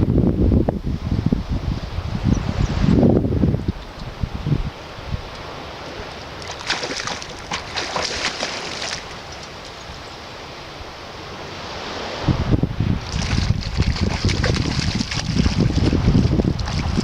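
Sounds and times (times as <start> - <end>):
running water rushing: 2.0 - 17.0.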